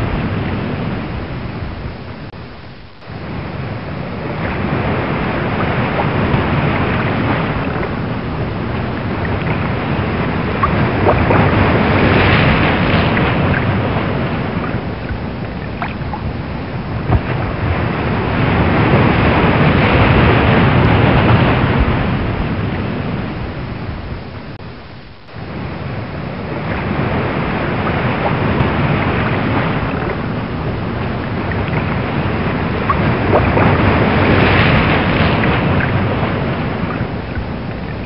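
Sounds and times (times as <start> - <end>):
waves surging and breaking: 0.0 - 38.0.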